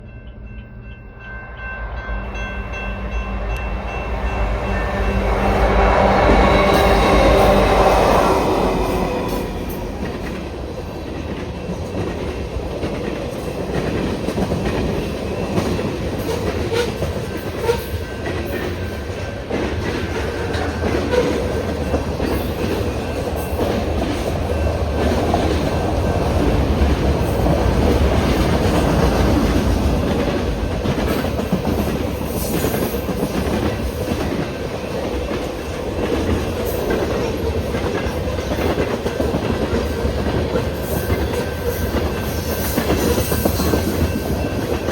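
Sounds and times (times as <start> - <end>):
train rumbling along track: 0.0 - 44.9.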